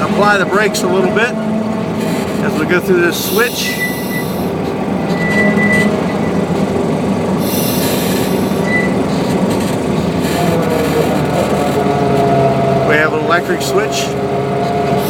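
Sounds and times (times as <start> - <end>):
high wheel squeal: 0.0 - 15.0
locomotive engine and wheels rumbling: 0.0 - 15.0.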